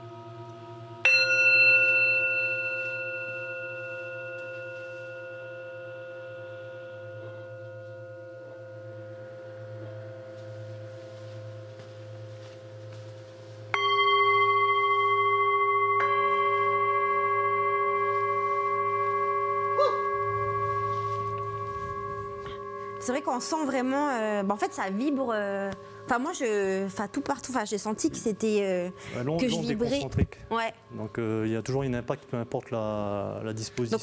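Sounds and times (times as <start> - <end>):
singing bowls ringing: 0.0 - 34.0.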